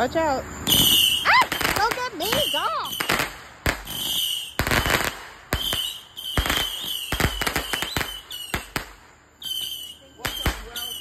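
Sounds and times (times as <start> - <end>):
fireworks fizzing hiss: 0.0 - 11.0
fireworks bangs: 0.6 - 11.0.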